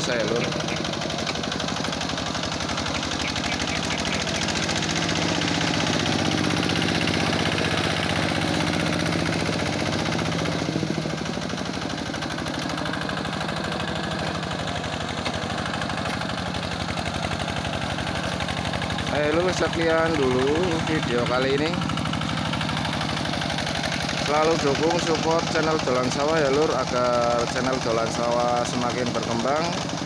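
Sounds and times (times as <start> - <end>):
diesel hand tractor engine chugging: 0.0 - 30.0.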